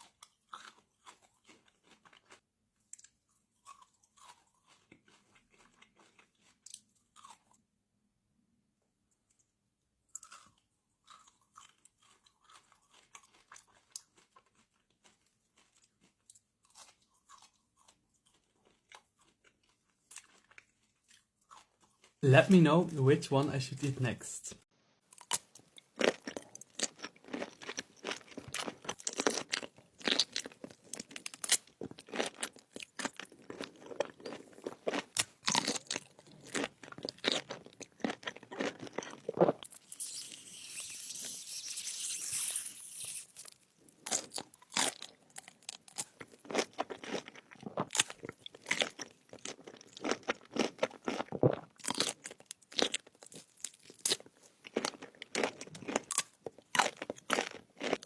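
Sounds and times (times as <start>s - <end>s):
crunchy food chewing: 0.0s - 7.6s, 10.1s - 22.2s, 25.1s - 58.0s.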